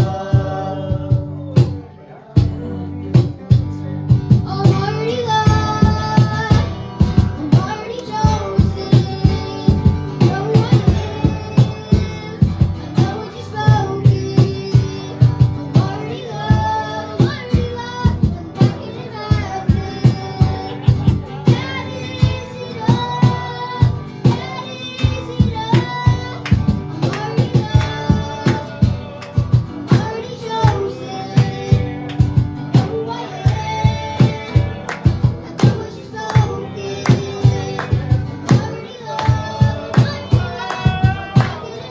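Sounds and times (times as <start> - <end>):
steady drum beat: 0.0 - 1.8, 2.4 - 41.8
person singing: 0.0 - 41.9
worship band playing: 0.0 - 41.9.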